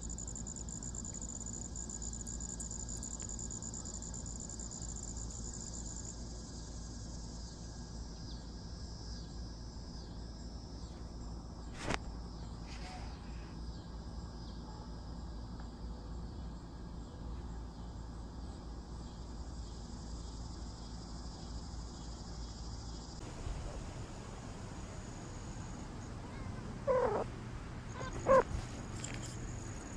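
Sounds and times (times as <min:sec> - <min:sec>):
insects chirring: 0:00.0 - 0:12.6, 0:17.7 - 0:29.9.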